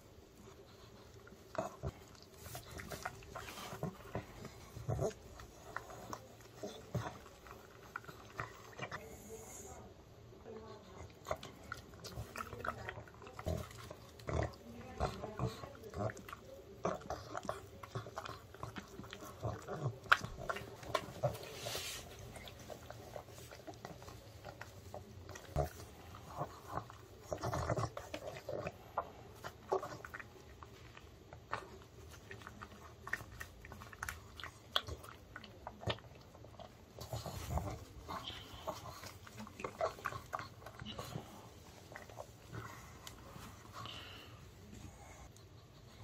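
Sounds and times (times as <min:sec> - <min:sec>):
dog chewing and licking: 0:00.1 - 0:09.6, 0:10.5 - 0:46.0.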